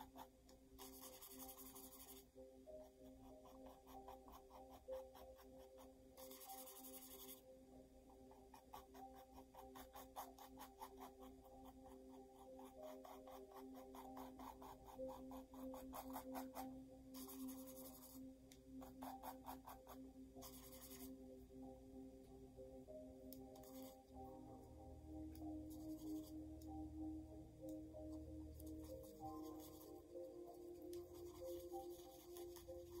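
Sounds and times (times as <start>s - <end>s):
ambient music: 0.0s - 33.0s.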